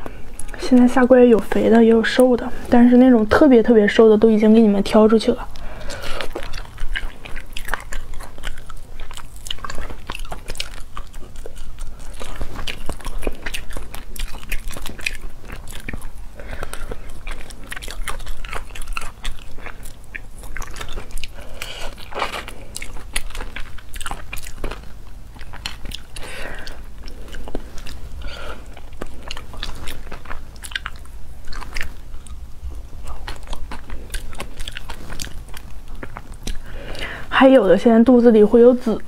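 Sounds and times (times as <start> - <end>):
biting and chewing: 5.0 - 37.2.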